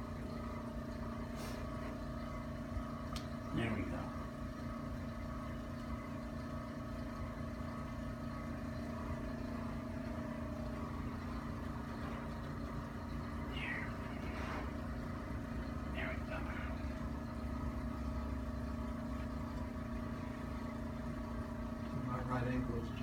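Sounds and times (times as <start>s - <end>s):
low room hum with tones: 0.0s - 23.0s.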